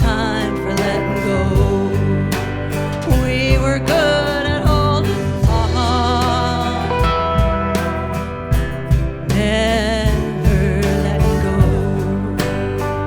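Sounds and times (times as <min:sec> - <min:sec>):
bass: 0:00.0 - 0:13.0
wavering lead melody: 0:00.0 - 0:13.0
drum hits: 0:01.6 - 0:12.9.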